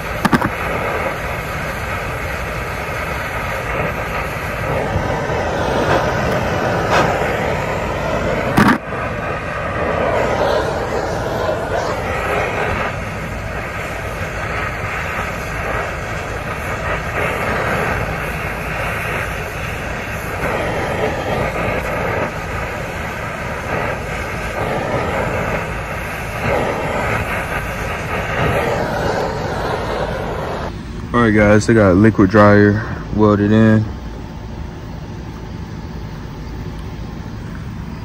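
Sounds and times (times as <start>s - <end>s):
torch flame hissing: 0.0s - 38.0s.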